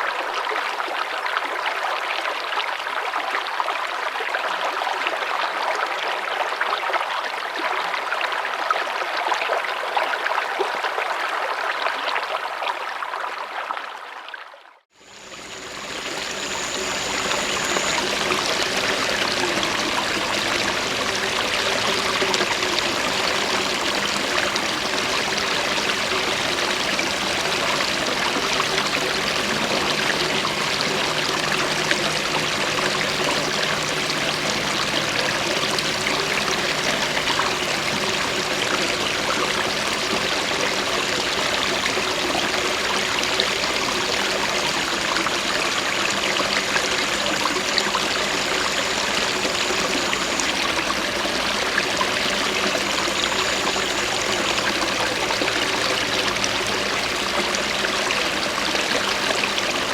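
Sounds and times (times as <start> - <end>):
water running in a stream: 0.0 - 59.9.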